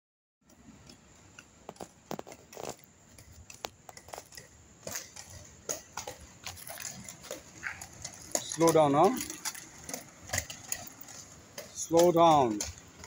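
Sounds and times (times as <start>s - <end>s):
footsteps on asphalt: 0.4s - 13.0s
inline skate wheels on asphalt: 0.4s - 13.0s.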